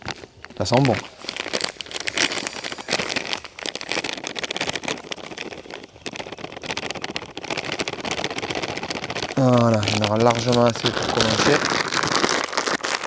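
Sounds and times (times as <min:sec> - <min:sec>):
plastic bag crinkling: 0:00.0 - 0:13.0
groundbait pouring into bowl: 0:00.5 - 0:13.0.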